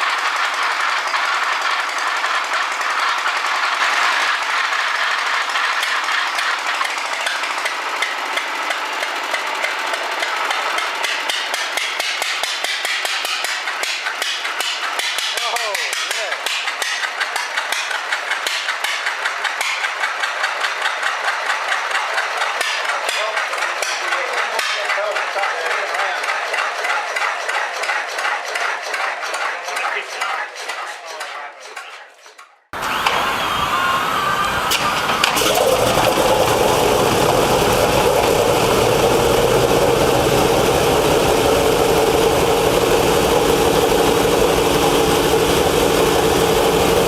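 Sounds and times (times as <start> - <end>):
old engine clattering: 0.0 - 33.3, 34.7 - 47.0.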